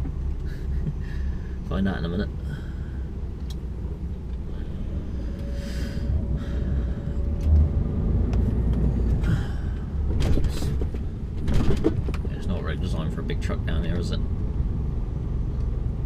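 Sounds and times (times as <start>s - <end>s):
lorry diesel engine rumble: 0.0s - 16.0s.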